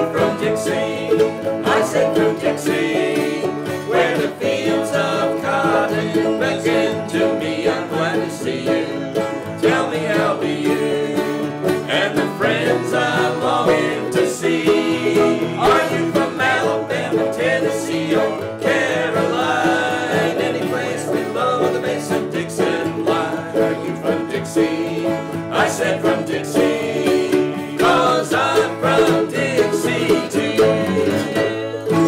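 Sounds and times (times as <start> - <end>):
country string band music: 0.0 - 32.0
voices singing: 0.0 - 32.0.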